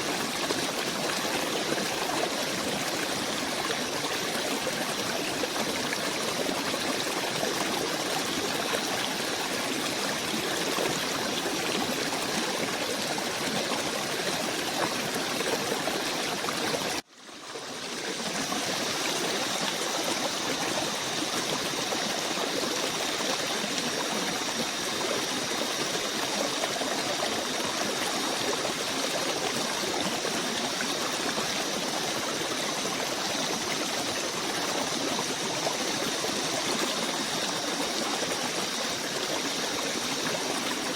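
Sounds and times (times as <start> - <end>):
stream of running water: 0.0 - 40.9.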